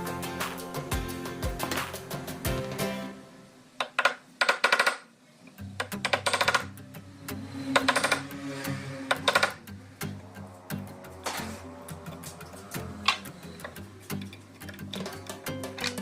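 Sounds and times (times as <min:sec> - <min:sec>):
background music: 0:00.0 - 0:03.8, 0:05.7 - 0:16.0.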